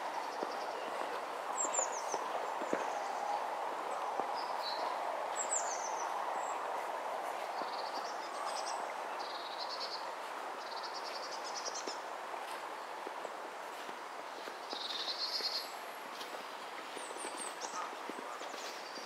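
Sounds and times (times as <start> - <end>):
faint footsteps: 0.0 - 9.0, 10.1 - 19.0
small songbirds chirping and trilling: 0.0 - 12.0, 13.7 - 19.0
outdoor background hiss: 0.0 - 19.0.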